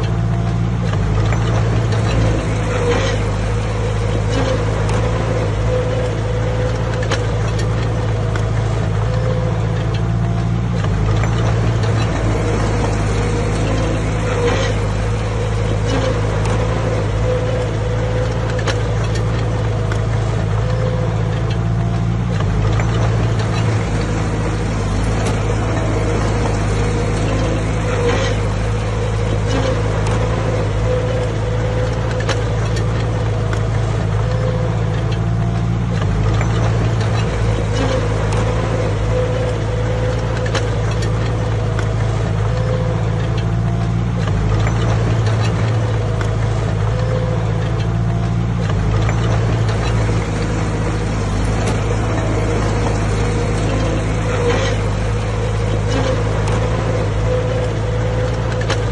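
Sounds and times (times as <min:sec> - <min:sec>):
bulldozer diesel engine: 0:00.0 - 0:58.9
faint clicks and clanks: 0:00.0 - 0:58.9.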